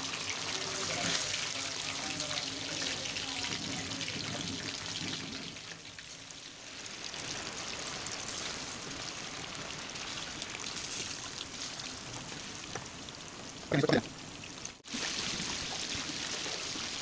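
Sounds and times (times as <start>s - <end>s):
oil sizzling and bubbling: 0.0s - 17.0s.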